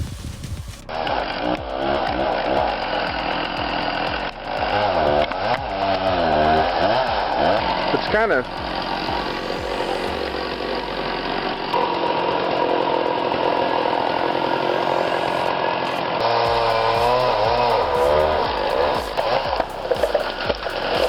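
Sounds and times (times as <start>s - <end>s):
power saw cutting wood: 0.7s - 21.0s
wavering pitched whine: 0.8s - 21.0s.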